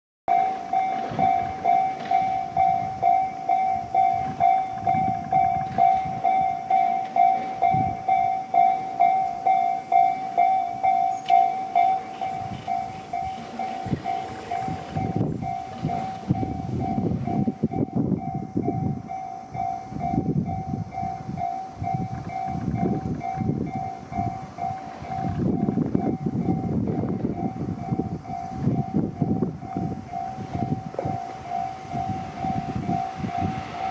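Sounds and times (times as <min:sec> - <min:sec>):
diesel railcar rumbling: 0:00.3 - 0:33.9
level-crossing warning bell ringing: 0:00.3 - 0:33.9.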